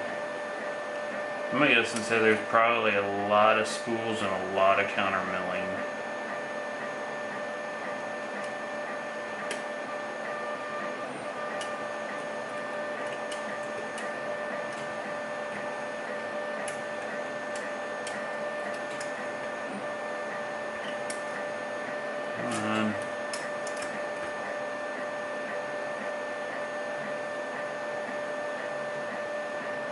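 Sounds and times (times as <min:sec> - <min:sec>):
electrical hum and hiss: 0:00.0 - 0:29.9.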